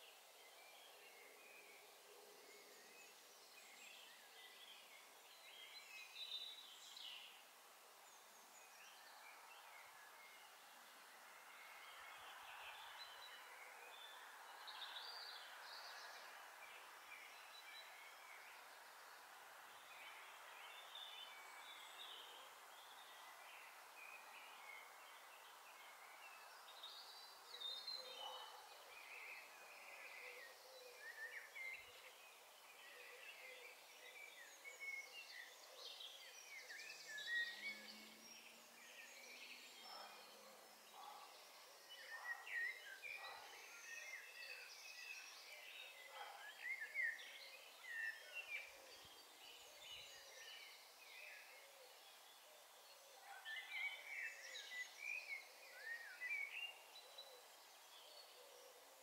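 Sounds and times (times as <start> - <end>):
background hiss: 0.0 - 59.0.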